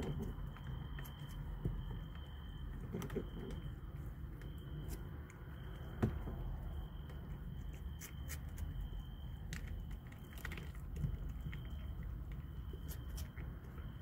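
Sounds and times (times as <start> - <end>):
faint high whine: 0.0 - 14.0
kittens chewing food: 0.0 - 14.0.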